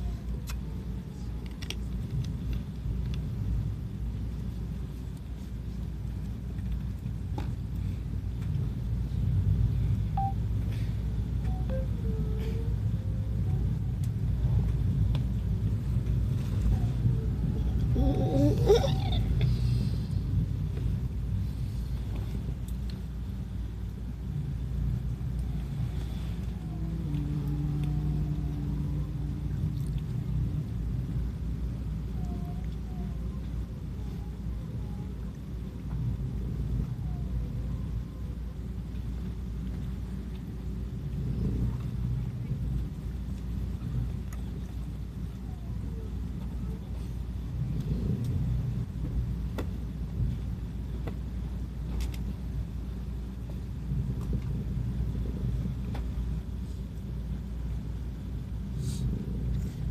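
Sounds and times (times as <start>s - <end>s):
steady low hum: 0.0s - 59.9s
train rumbling on track: 0.0s - 59.9s.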